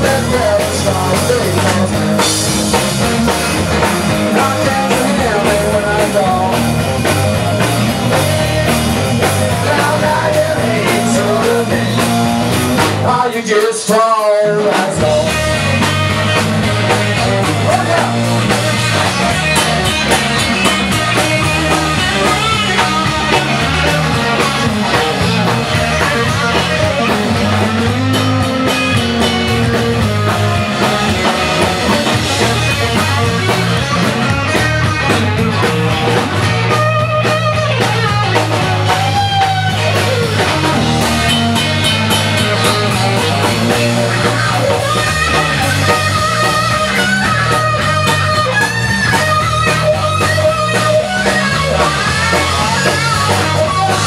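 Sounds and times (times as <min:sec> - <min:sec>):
rock music with guitar and drums: 0:00.0 - 0:54.0.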